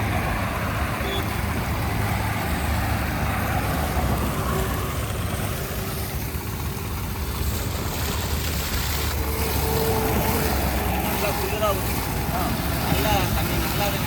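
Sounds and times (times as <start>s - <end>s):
heavy machinery diesel engine running: 0.0s - 14.0s.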